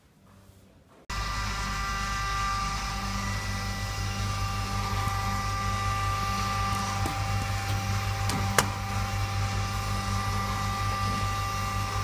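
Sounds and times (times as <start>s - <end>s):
refrigeration compressor humming: 1.1s - 12.0s.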